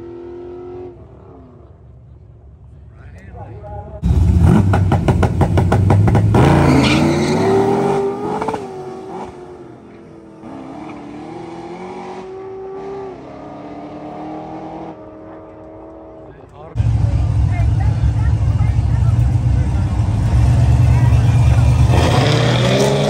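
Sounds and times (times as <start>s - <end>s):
engines revving at drag launch: 0.0s - 2.0s, 4.0s - 23.0s.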